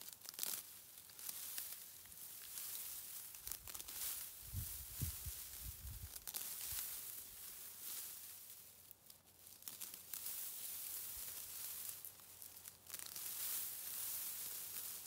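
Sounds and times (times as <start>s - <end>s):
dry wheat stalks rustling: 0.0s - 15.0s.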